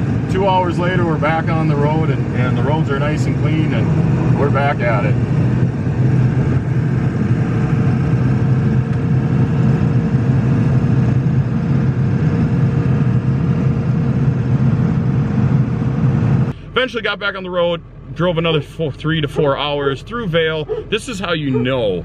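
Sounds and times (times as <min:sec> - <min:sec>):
engine drone: 0:00.0 - 0:22.0
road noise: 0:00.0 - 0:22.0.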